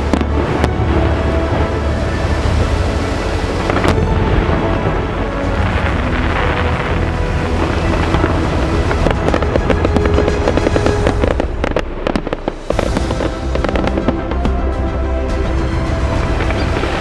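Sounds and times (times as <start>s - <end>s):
fireworks crackling: 0.0s - 17.0s
music: 0.0s - 17.0s.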